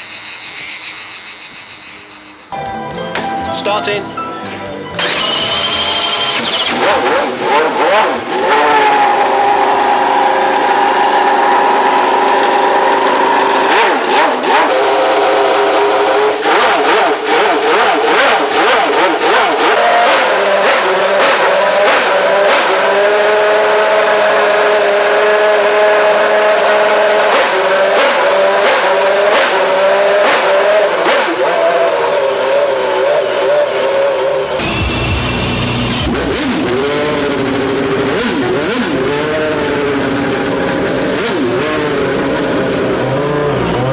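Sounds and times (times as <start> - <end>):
racing engine starting and revving: 5.0 - 43.9.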